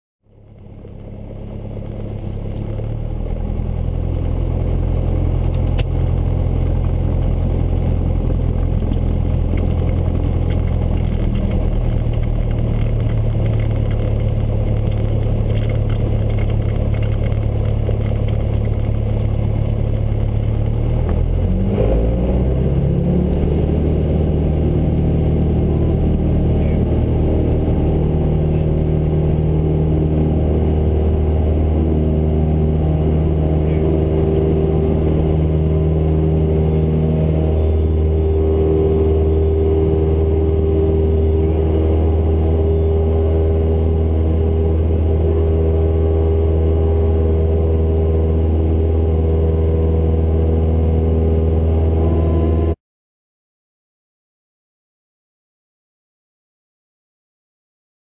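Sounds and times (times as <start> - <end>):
propeller plane engine droning: 0.3 - 52.8.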